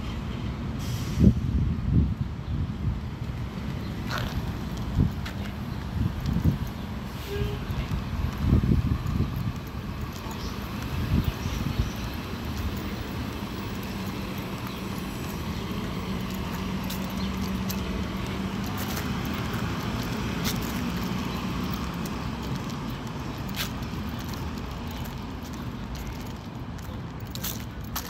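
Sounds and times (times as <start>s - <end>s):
bus engine droning: 0.0s - 26.7s.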